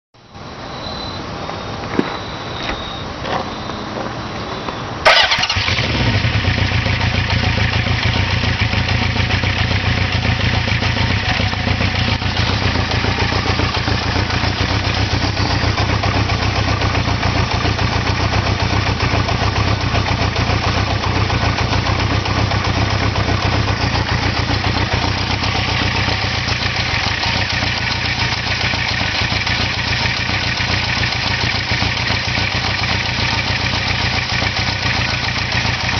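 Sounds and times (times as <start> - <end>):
vehicle engine starting and idling: 5.0 - 35.9.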